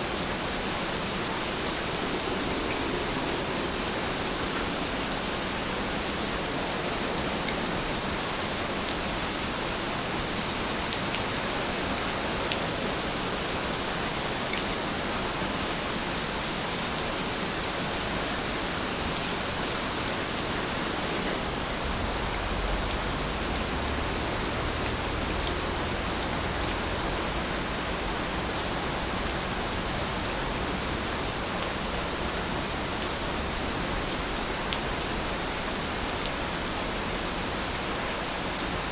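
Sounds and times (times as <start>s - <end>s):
steady rainfall hiss: 0.0s - 38.9s.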